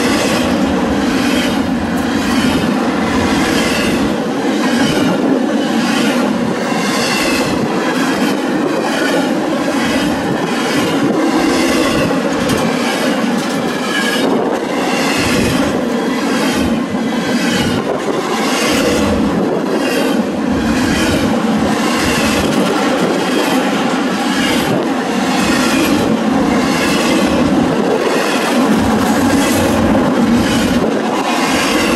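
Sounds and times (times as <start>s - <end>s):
clacks over rail joints: 0.0s - 31.9s
rumble of train wheels on rail: 0.0s - 31.9s.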